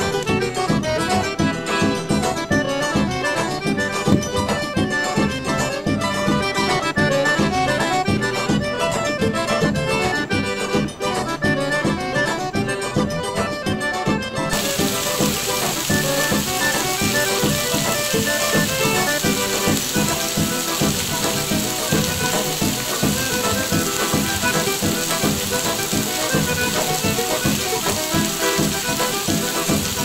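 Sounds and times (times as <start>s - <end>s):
folk music led by accordion: 0.0s - 30.0s.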